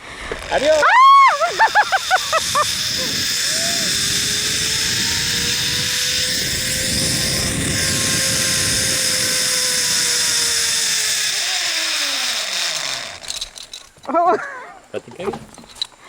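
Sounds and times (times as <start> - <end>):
zip-line pulley whine: 0.0 - 14.0.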